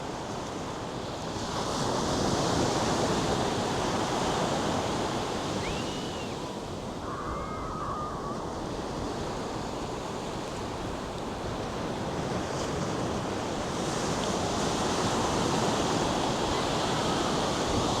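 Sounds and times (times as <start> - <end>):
waves breaking on beach: 0.0 - 18.0.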